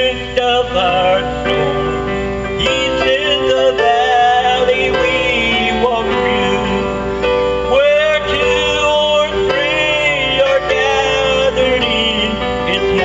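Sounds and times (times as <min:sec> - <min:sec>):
instrumental accompaniment: 0:00.0 - 0:13.0
man singing into microphone: 0:00.0 - 0:13.0.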